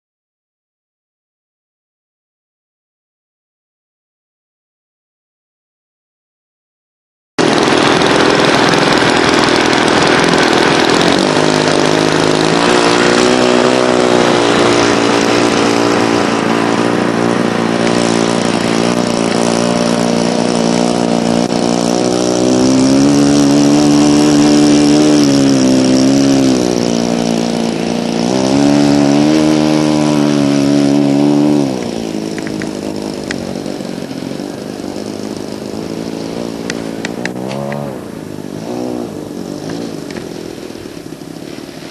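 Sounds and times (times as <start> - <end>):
model plane engine revving: 7.4 - 41.9.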